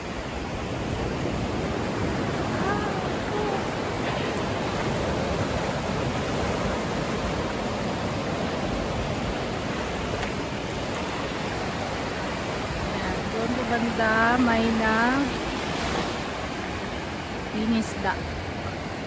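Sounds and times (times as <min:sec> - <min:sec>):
surf waves breaking on sand: 0:00.0 - 0:19.0.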